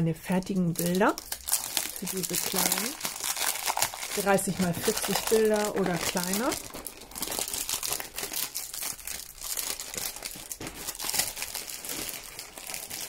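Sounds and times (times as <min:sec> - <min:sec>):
thin plastic packaging crinkling: 0:00.3 - 0:13.0.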